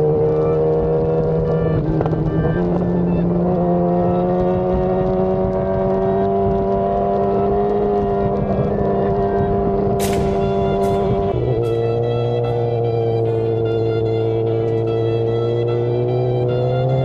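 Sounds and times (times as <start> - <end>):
motorcycle engine cruising: 0.0 - 17.0
road and wind noise: 0.0 - 17.0.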